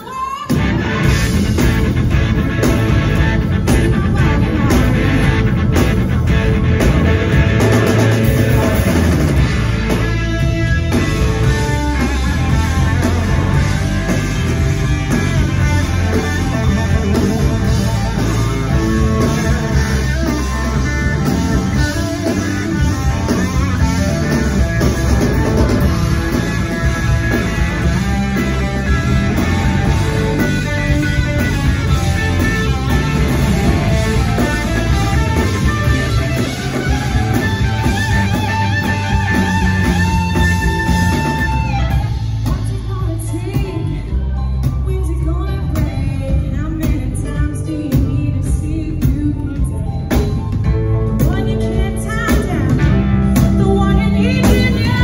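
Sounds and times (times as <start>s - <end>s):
blues-rock band playing: 0.0s - 55.0s
electric guitar lead: 0.0s - 55.0s.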